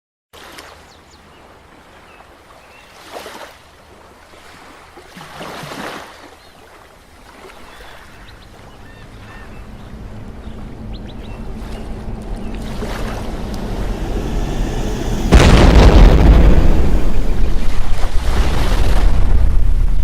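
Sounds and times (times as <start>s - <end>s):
rushing sea water and surf: 0.4s - 20.0s.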